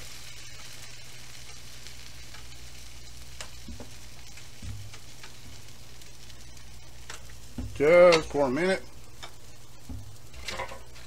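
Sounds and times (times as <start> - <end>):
buns sizzling on griddle pan: 0.0 - 11.0
sharp crackles: 0.0 - 11.0.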